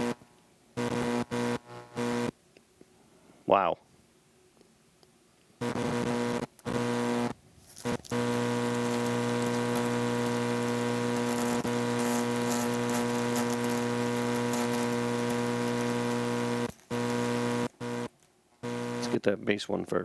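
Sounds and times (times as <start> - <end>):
steady buzzing hum: 0.0 - 2.4, 5.6 - 19.3.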